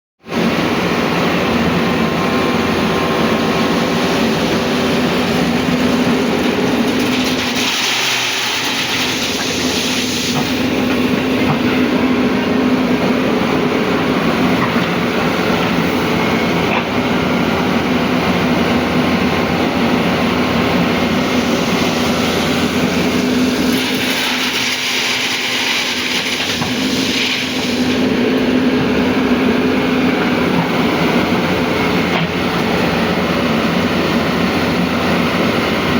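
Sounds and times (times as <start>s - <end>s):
excavator diesel engine: 0.2s - 35.9s.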